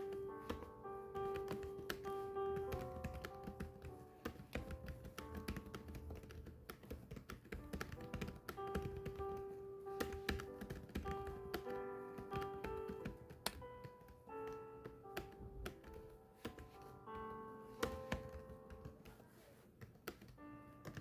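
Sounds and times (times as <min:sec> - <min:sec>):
keyboard typing clicks: 0:00.0 - 0:19.1, 0:19.8 - 0:21.0
soft background music: 0:00.0 - 0:21.0.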